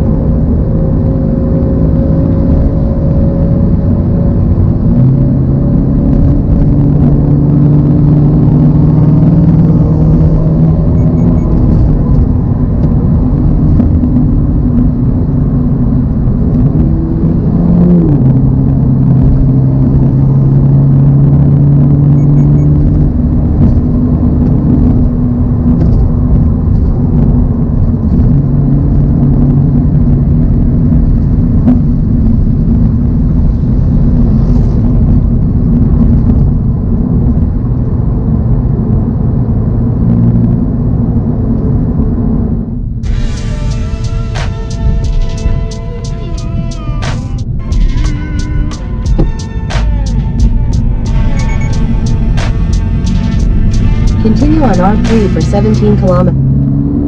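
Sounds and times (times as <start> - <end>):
car engine running steadily: 0.0 - 57.0
road rumble: 0.0 - 57.0.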